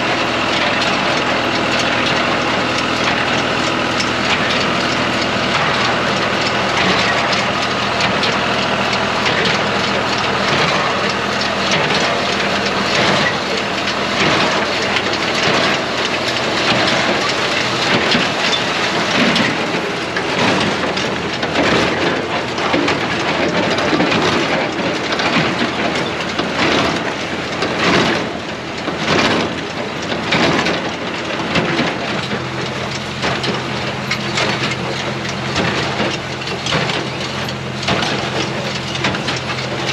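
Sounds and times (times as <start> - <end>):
tractor engine tone: 0.0 - 39.9.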